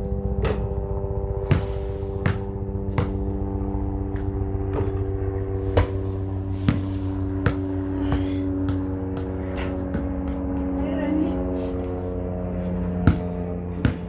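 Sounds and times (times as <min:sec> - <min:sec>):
basketball bouncing on concrete: 0:00.0 - 0:10.8, 0:12.8 - 0:14.0
small engine humming: 0:00.0 - 0:14.0.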